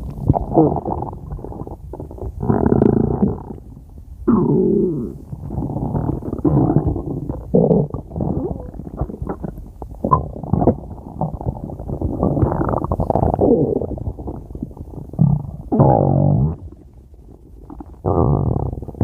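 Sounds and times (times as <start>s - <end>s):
stomach growling and gurgling: 0.0s - 19.0s.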